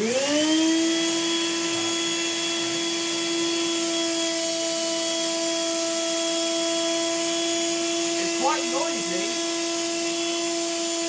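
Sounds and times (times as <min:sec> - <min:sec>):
vacuum cleaner motor whining: 0:00.0 - 0:11.0.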